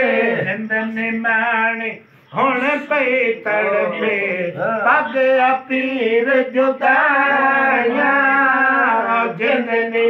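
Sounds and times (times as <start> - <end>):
man singing unaccompanied: 0.0 - 10.0.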